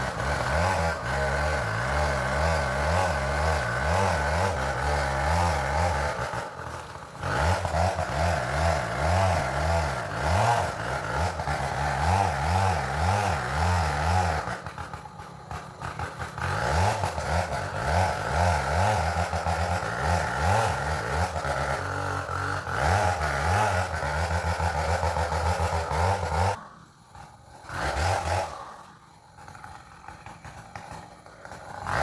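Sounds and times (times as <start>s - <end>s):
chainsaw at high revs: 0.0s - 32.0s.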